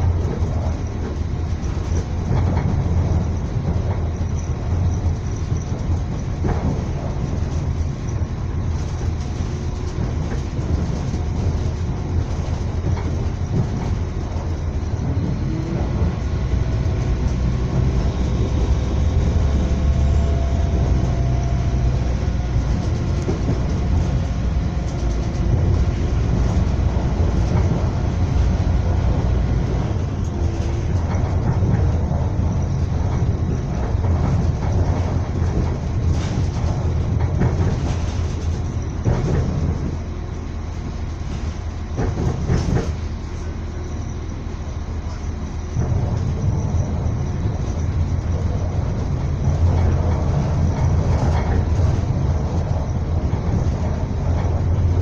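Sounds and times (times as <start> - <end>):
train rumble from inside carriage: 0.0 - 55.0
wheels clacking over rails: 0.0 - 55.0.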